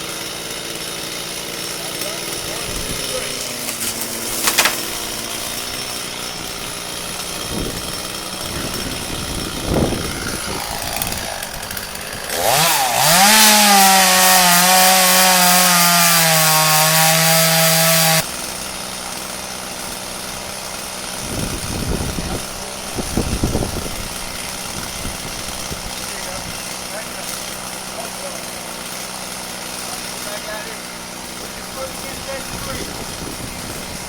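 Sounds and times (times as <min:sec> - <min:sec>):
chainsaw idling and revving: 0:00.0 - 0:34.0.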